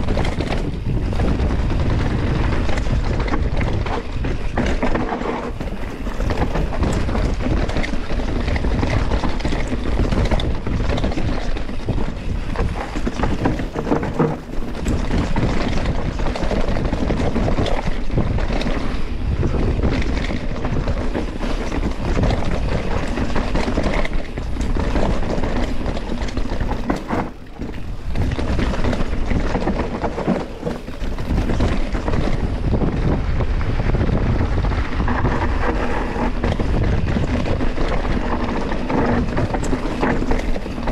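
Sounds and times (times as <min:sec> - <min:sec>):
bike clattering and rattling: 0:00.0 - 0:40.9
tyres on dirt and roots: 0:00.0 - 0:40.9
wind rush on microphone: 0:00.0 - 0:40.9.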